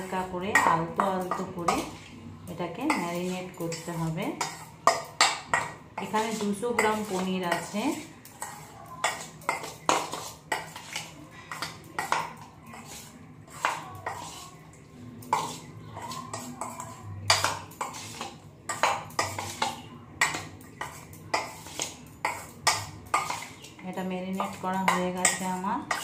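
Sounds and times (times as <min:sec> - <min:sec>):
metal spoon clinking in steel bowl: 0:00.1 - 0:02.0, 0:02.8 - 0:26.0.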